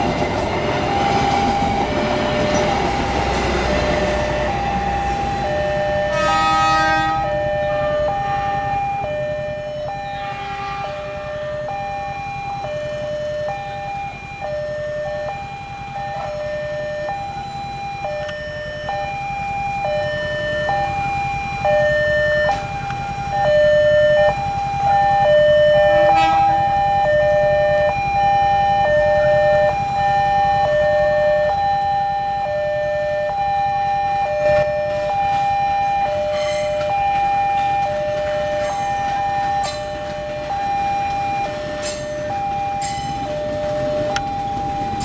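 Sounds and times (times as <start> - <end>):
electric train rumbling: 0.0 - 45.0
level crossing two-tone alarm: 0.0 - 45.0.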